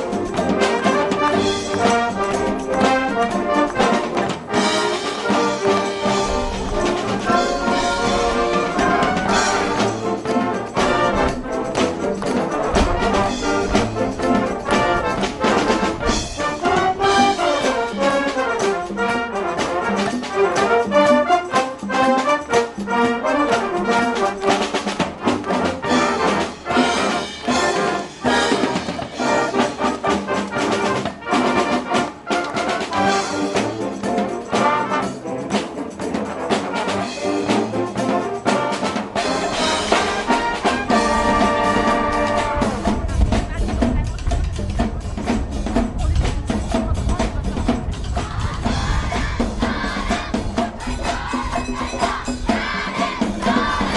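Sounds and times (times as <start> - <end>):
marching band brass: 0.0 - 53.9
steady drum beat: 0.0 - 53.9.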